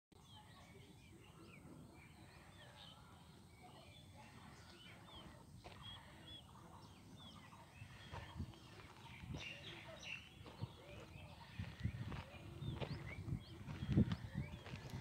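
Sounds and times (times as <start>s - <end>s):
birds chirping: 0.2s - 15.0s.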